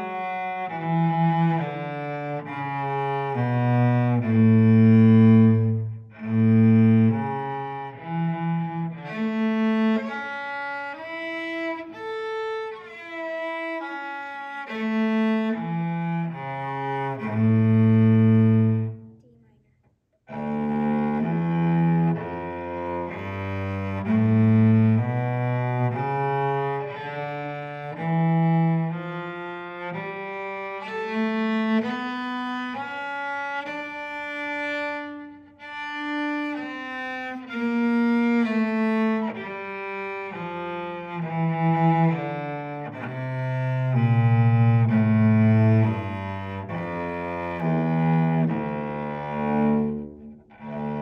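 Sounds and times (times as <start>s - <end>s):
bowed cello scale: 0.0s - 51.0s.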